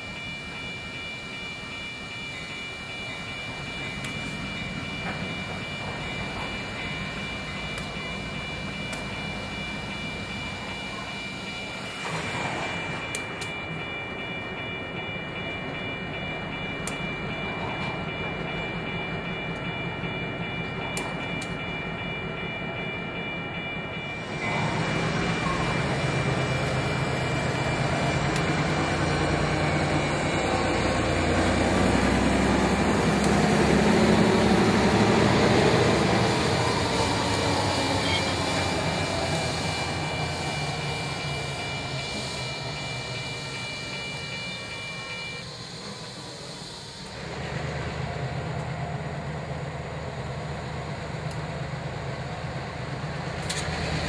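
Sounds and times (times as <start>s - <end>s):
diesel locomotive engine running: 0.0s - 54.0s
high-pitched whine: 0.0s - 54.0s.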